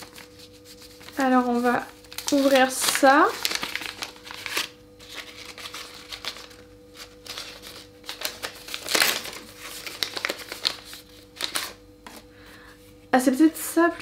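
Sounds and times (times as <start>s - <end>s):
paper crinkling and rustling: 0.0s - 12.3s.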